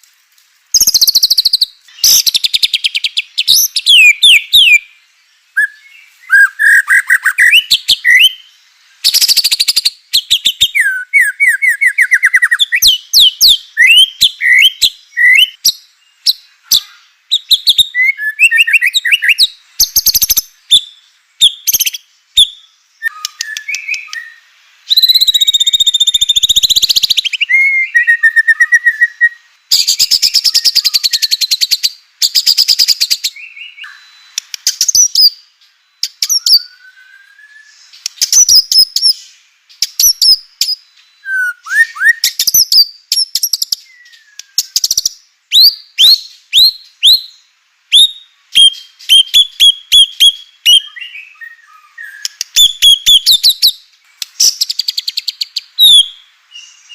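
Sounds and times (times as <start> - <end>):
songbird singing varied song: 0.0 - 56.9.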